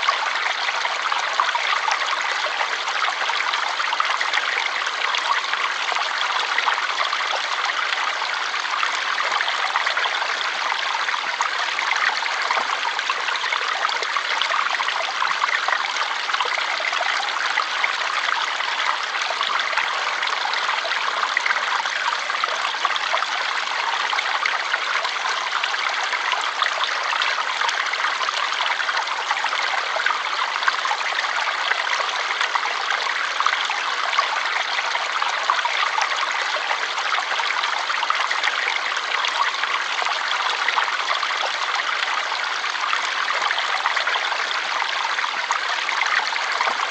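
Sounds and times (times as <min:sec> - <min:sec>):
stream water rushing and trickling: 0:00.0 - 0:46.9.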